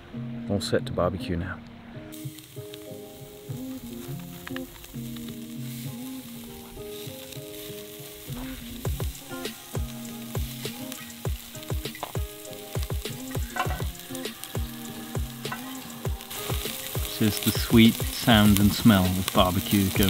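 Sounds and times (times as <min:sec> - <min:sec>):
background music with steady beat: 0:01.9 - 0:20.0
chicken sizzling on grill: 0:02.1 - 0:20.0.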